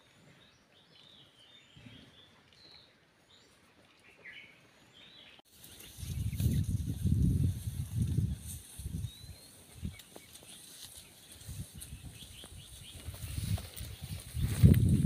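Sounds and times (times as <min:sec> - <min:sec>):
small birds chirping: 0:00.0 - 0:07.2, 0:08.0 - 0:15.0.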